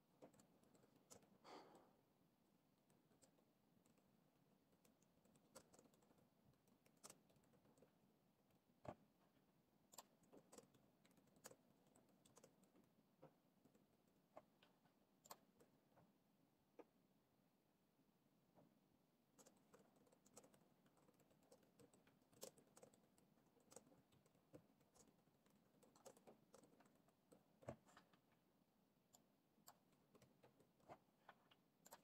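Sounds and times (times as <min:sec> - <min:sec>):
laptop keyboard typing: 0:00.0 - 0:01.5, 0:02.4 - 0:09.1, 0:09.8 - 0:15.9, 0:19.3 - 0:28.4, 0:29.1 - 0:32.0.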